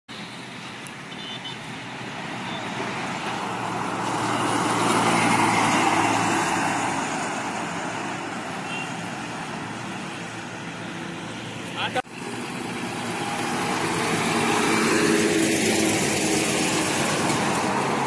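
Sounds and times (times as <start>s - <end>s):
coach passing by: 1.5s - 18.0s.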